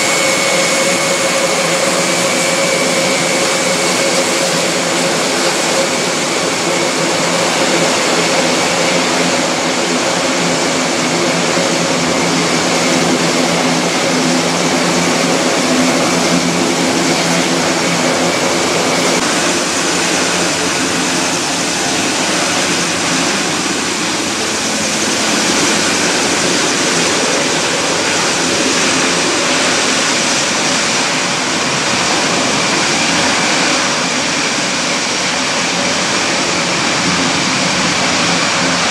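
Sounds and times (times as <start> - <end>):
high engine whine: 0.0 - 38.9
turboprop engines droning: 0.0 - 38.9.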